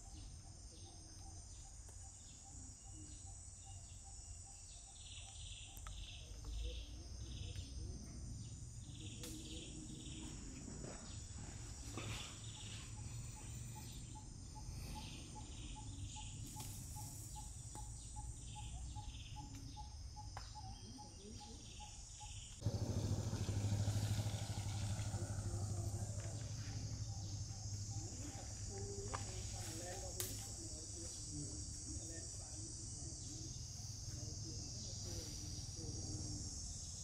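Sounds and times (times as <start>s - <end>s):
birds: 0.0s - 37.0s
insects: 0.0s - 37.0s.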